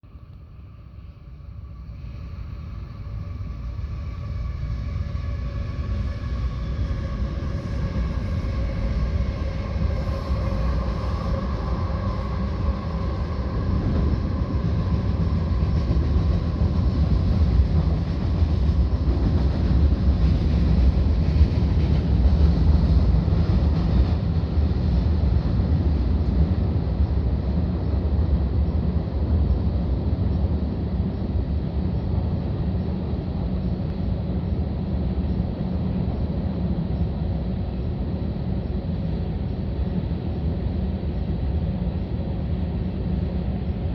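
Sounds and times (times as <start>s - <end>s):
diesel locomotive engine drone: 0.0s - 43.9s
rail cars rumbling over bridge: 0.0s - 43.9s.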